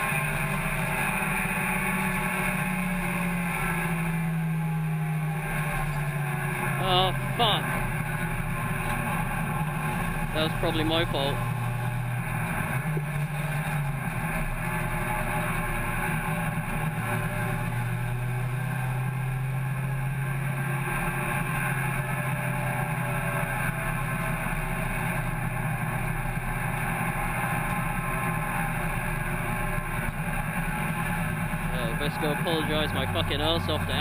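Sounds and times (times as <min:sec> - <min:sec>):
car engine running: 0:00.0 - 0:34.0
road and tyre noise: 0:00.0 - 0:34.0.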